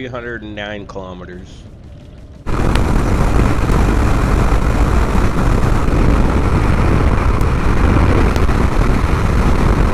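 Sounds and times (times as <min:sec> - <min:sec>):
motorcycle engine drone: 0:00.0 - 0:09.9
wind noise: 0:01.6 - 0:09.9.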